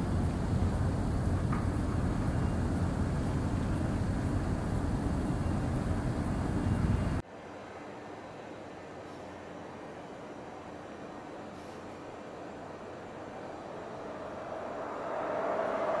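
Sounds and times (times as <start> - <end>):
low rumble of harbour noise: 0.0 - 16.0
quiet steady hum: 0.0 - 16.0.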